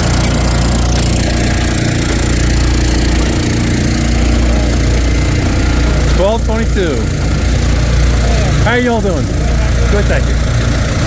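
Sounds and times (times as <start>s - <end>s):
wood splitter engine running: 0.0s - 11.0s.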